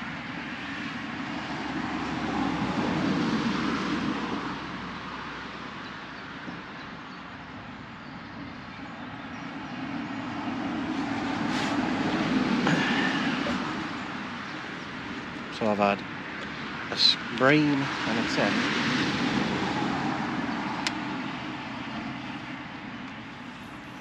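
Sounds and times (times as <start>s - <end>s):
distant vehicles passing: 0.0s - 24.0s.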